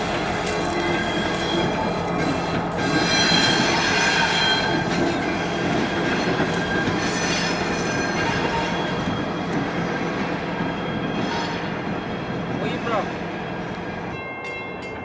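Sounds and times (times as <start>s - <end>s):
railroad cars rumbling: 0.0s - 15.0s
train wheels squealing on rails: 0.0s - 15.0s.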